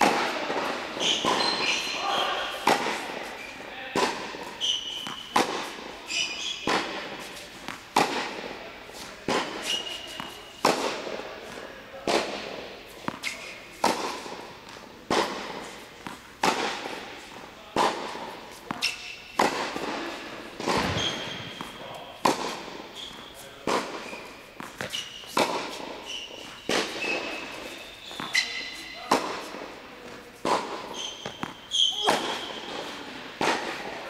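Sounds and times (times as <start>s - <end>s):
tennis ball hit with racket: 0.0s - 34.0s
tennis shoes squeaking: 0.0s - 34.0s.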